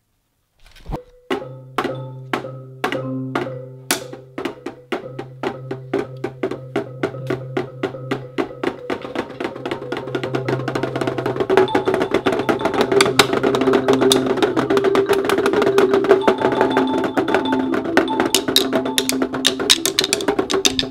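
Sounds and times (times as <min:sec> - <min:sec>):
electronic percussion pad hits: 0:01.3 - 0:20.9.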